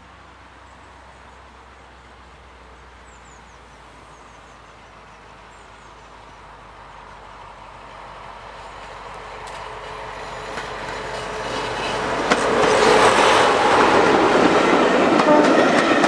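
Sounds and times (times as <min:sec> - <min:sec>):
diesel locomotive approaching: 0:00.0 - 0:16.0.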